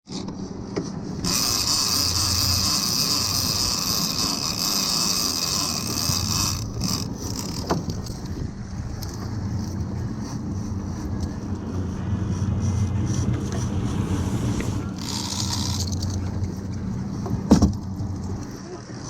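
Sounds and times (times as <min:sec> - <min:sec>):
boat engine running: 0:00.5 - 0:19.0.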